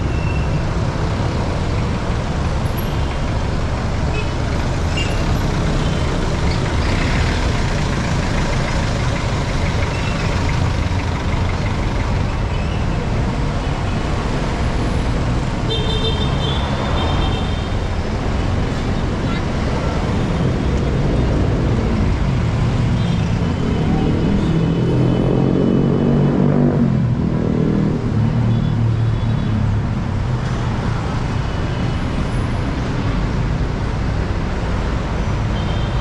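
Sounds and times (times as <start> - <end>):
traffic engines rumbling: 0.0 - 36.0.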